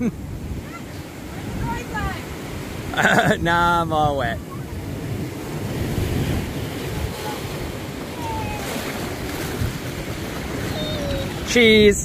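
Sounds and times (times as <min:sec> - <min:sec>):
ocean waves washing over rocks: 0:00.0 - 0:12.0
wind buffeting microphone: 0:00.0 - 0:12.0.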